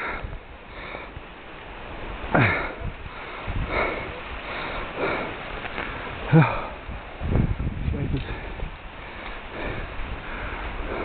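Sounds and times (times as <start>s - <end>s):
man breathing heavily: 0.0s - 1.3s, 2.3s - 11.0s.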